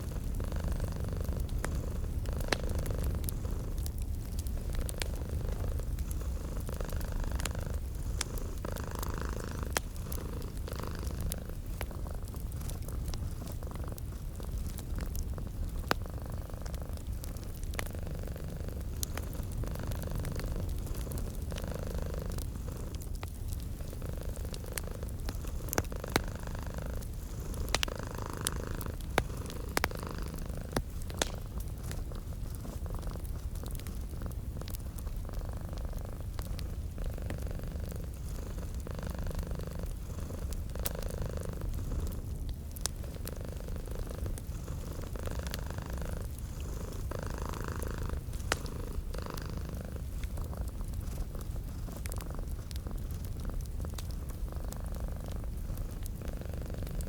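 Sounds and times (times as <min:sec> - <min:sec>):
cat purring: 0:00.0 - 0:57.0
wood fire crackling and popping: 0:00.0 - 0:57.0.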